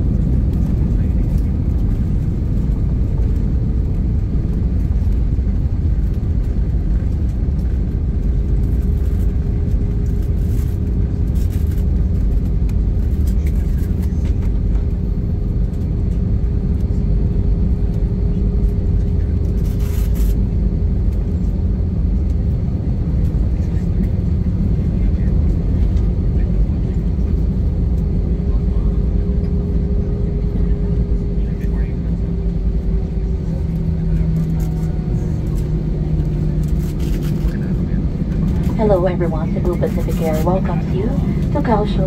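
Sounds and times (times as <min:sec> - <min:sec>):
airliner engines and wheels rumbling: 0:00.0 - 0:42.0
faint steady whine: 0:00.0 - 0:42.0.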